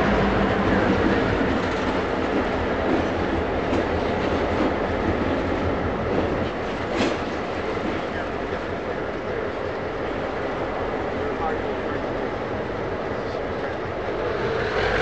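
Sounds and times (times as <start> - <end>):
diesel locomotive engines rumbling: 0.0 - 15.0
wheel and rail noise: 0.0 - 15.0.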